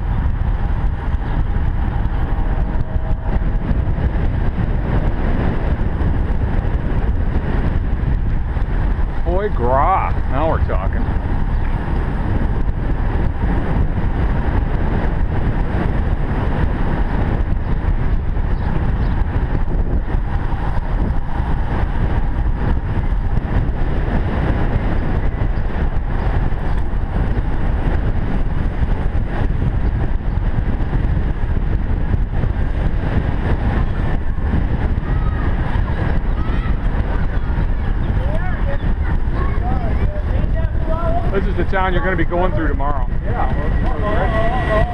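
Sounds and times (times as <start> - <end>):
wind rush on microphone: 0.0 - 44.9.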